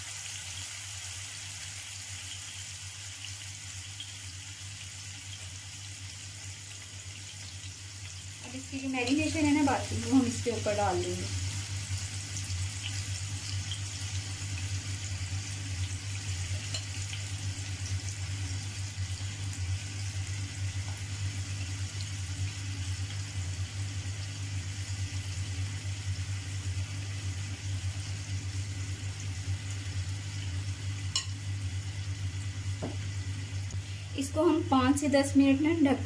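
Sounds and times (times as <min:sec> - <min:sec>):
chicken sizzling in oil: 0:00.0 - 0:36.0
low steady hum: 0:03.9 - 0:36.0.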